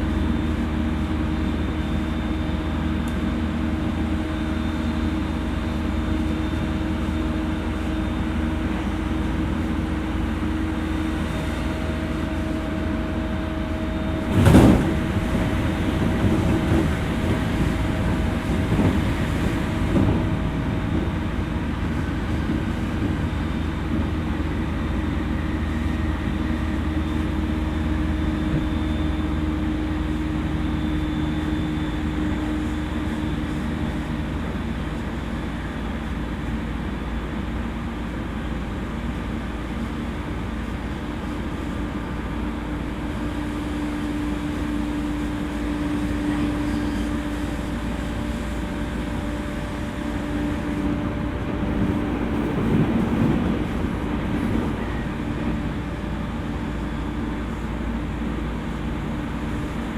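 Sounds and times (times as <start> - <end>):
train motor hum: 0.0 - 59.9
train wheel and rail noise: 0.0 - 59.9.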